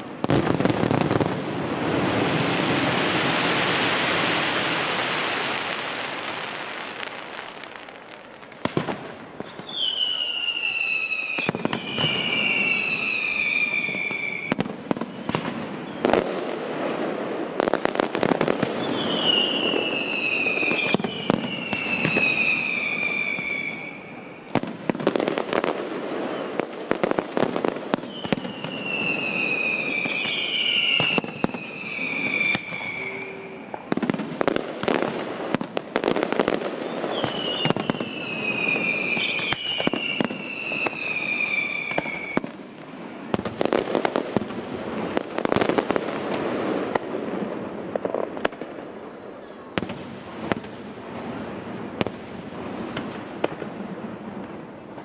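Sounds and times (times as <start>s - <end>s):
descending firework whistles: 0.0s - 47.0s
firework bangs and crackle: 0.0s - 55.0s.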